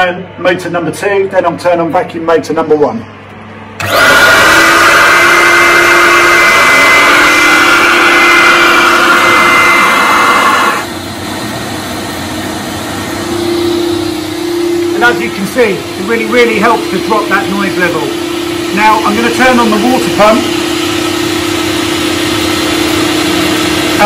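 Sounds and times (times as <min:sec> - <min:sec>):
vacuum motors running: 0:03.8 - 0:24.0.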